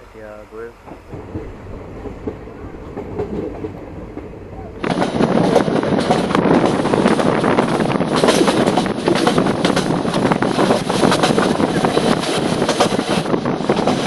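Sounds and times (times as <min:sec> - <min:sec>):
train wheels on rails: 0:00.0 - 0:14.0
wind buffeting microphone: 0:00.9 - 0:14.0.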